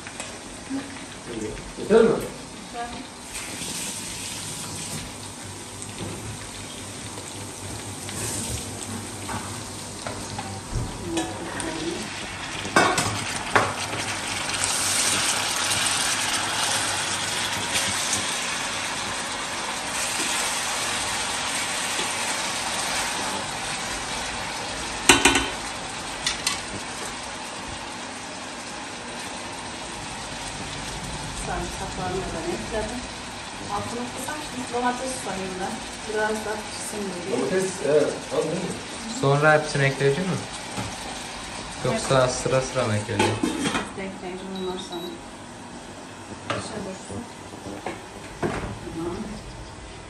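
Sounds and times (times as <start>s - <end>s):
food sizzling in a pan: 0.0s - 50.0s.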